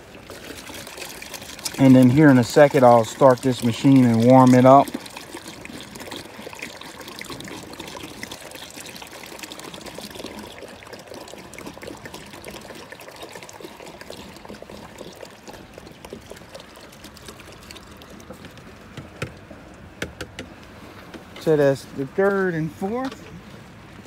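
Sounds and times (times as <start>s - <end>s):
liquid pouring into a bucket: 0.0s - 24.0s.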